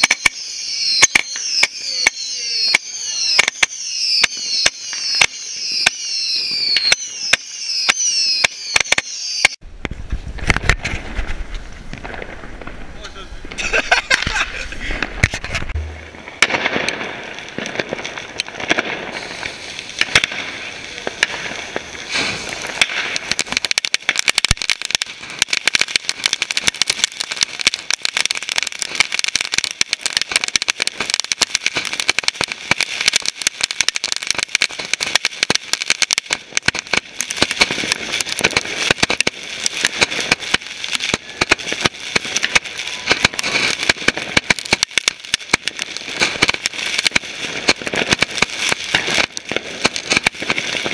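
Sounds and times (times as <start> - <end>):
firework fountain hissing: 0.0 - 50.9
rapid crackling of sparks: 0.0 - 50.9.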